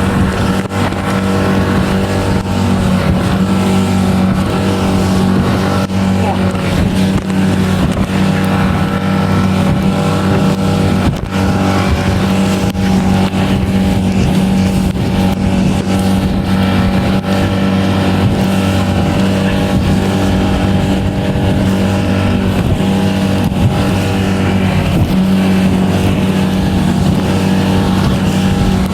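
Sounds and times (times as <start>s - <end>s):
motorboat engine droning: 0.0s - 28.9s.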